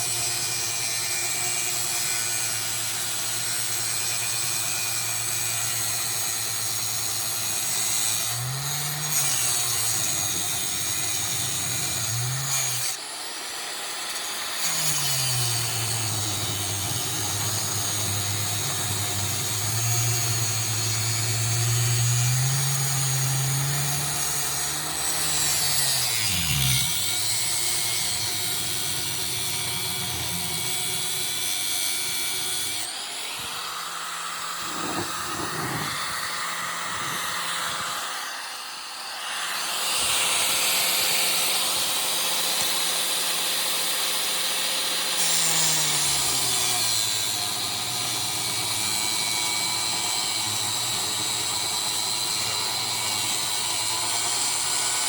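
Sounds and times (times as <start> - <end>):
angle grinder cutting metal: 0.0 - 55.0.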